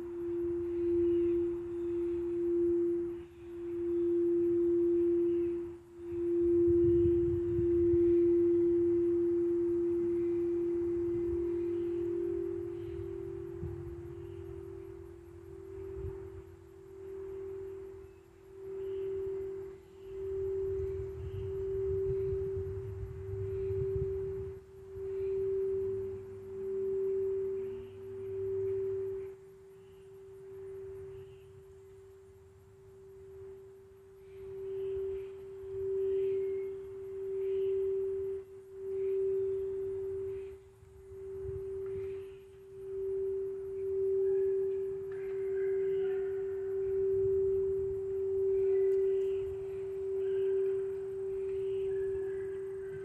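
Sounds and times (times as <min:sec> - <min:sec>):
crystal singing bowl tone: 0:00.0 - 0:53.0.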